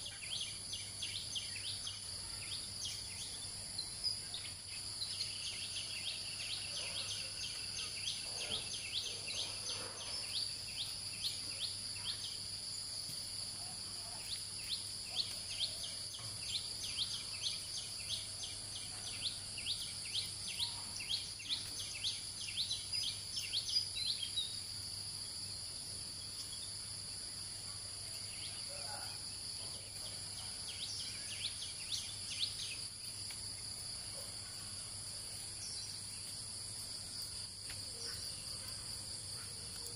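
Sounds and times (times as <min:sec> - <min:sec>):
insects droning: 0:00.0 - 0:39.9
rapid insect chirps: 0:00.0 - 0:39.9.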